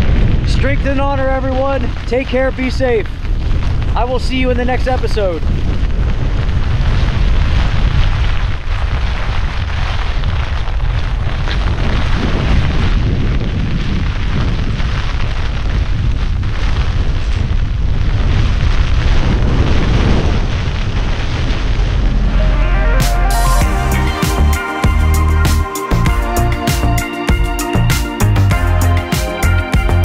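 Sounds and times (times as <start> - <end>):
wind-driven rain hiss: 0.0 - 22.4, 23.2 - 30.0
strong wind on microphone: 0.0 - 27.9.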